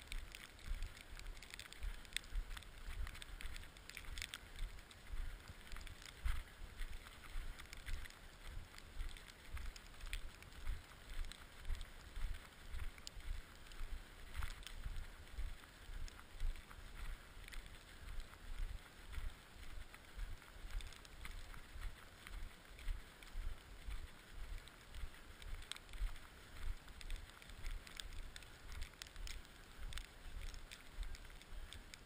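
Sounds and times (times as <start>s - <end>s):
light ticks: 0.0s - 32.0s
steady hiss: 0.0s - 32.0s.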